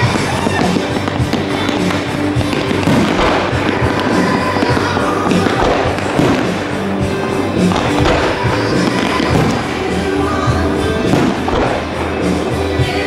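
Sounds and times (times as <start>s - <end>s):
fireworks crackling and banging: 0.0s - 13.0s
music playing: 0.0s - 13.0s.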